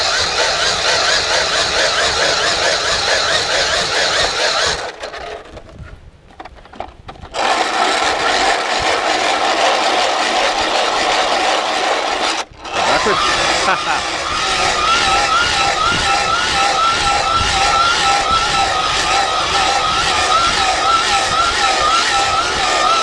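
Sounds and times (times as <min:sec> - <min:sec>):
loud mechanical running noise: 0:00.0 - 0:05.6, 0:07.2 - 0:23.0.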